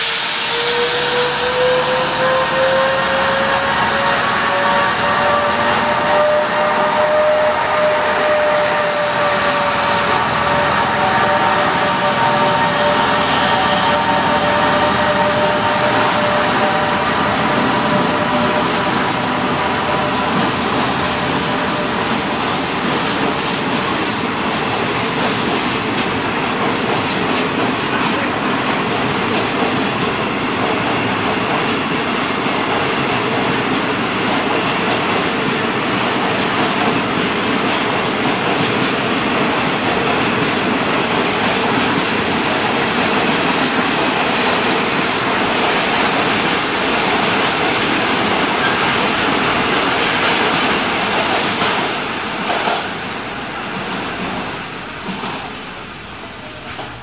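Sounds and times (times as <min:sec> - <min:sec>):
train wheels rushing on rails: 0:00.0 - 0:57.0.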